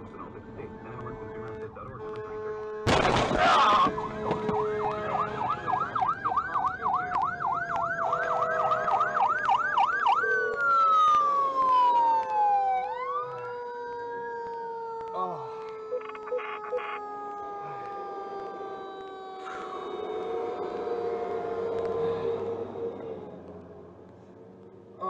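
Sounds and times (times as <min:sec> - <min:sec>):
ambulance siren: 0:00.6 - 0:25.0.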